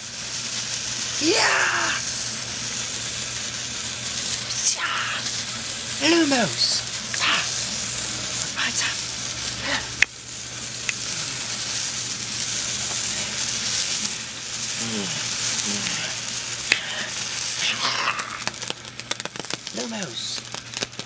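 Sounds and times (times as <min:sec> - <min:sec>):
sparkler fizzing: 0:00.0 - 0:21.0.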